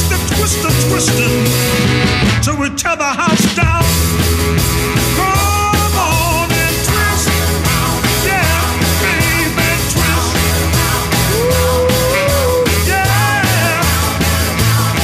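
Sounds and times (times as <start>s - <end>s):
rock and roll band music: 0.0s - 15.0s.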